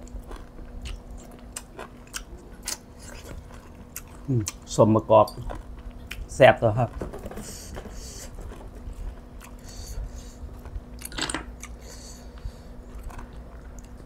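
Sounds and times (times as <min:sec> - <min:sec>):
person chewing food: 0:00.0 - 0:04.7, 0:05.4 - 0:06.3, 0:07.3 - 0:14.0.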